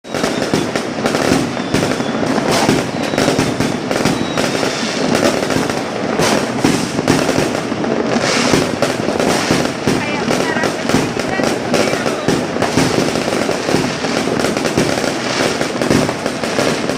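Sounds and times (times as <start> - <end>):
fireworks and firecrackers bangs: 0.0 - 16.9.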